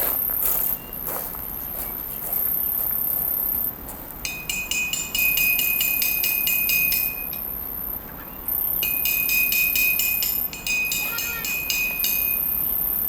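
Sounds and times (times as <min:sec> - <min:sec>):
crickets chirping: 0:00.0 - 0:13.0
high-pitched insect trill: 0:00.0 - 0:13.0.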